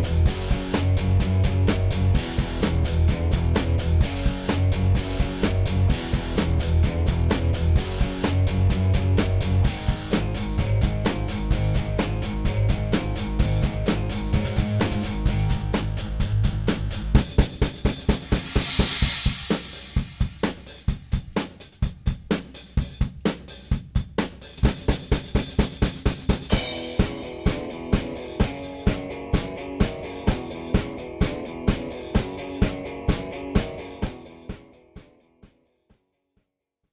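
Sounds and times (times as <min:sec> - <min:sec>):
rock instrumental music: 0:00.0 - 0:20.8, 0:25.5 - 0:34.7
drum kit beat: 0:00.0 - 0:35.2.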